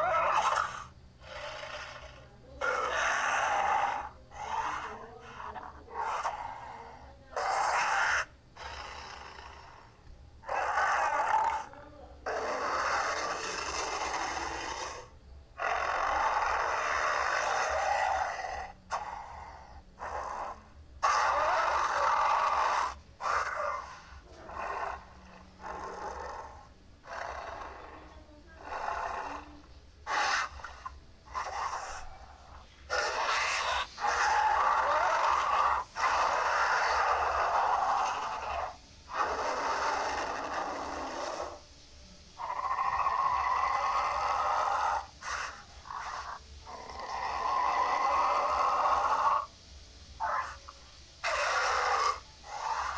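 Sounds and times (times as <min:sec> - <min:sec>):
hoarse hiss-like creature calls: 0:00.0 - 0:52.9.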